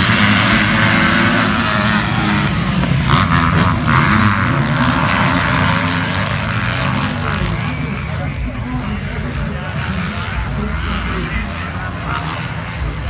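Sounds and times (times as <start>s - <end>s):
motocross engines revving: 0.0s - 13.0s.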